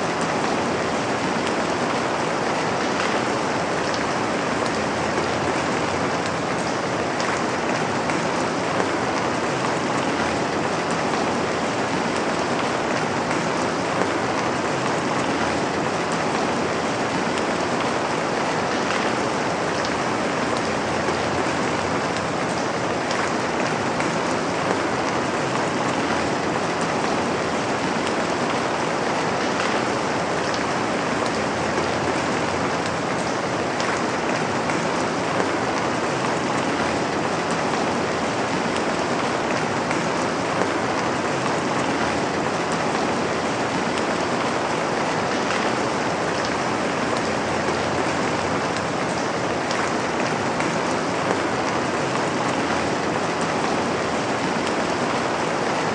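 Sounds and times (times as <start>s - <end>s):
rain pattering on a surface: 0.0s - 55.9s.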